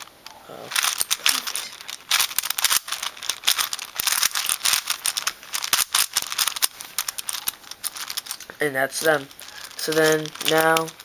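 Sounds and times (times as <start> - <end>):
puzzle cube plastic clicks: 0.7 - 11.0.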